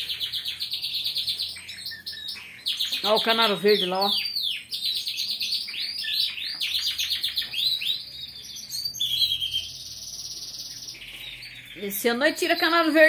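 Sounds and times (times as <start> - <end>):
canary song: 0.0 - 13.0.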